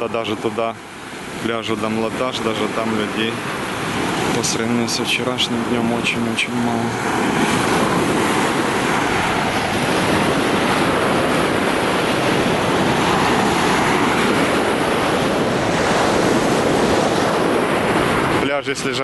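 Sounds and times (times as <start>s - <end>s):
small waves breaking on beach: 0.0s - 19.0s
wind on microphone: 0.0s - 19.0s.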